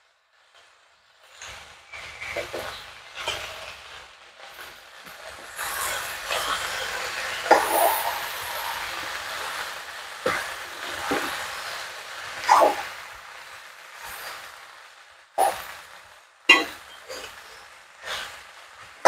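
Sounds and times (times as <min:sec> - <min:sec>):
steady hiss: 0:00.0 - 0:19.0
vegetables stirred in a wok: 0:00.4 - 0:19.0.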